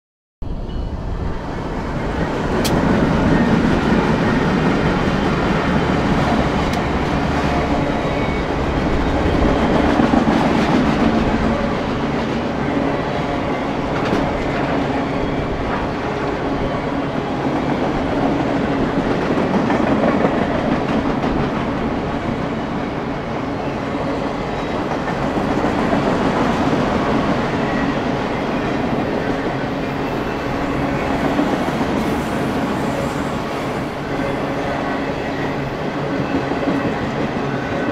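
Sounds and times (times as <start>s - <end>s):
freight train wheels rumbling on rails: 0.5s - 37.9s.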